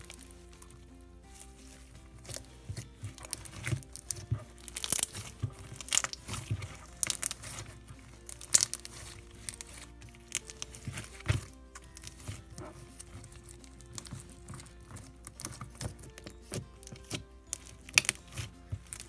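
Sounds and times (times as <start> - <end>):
background music: 0.0 - 19.0
slime crackling and clicking: 2.2 - 19.0.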